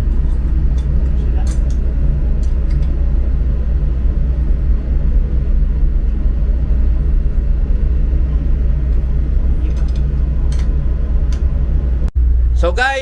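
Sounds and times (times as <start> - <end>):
ship machinery droning: 0.0 - 13.0.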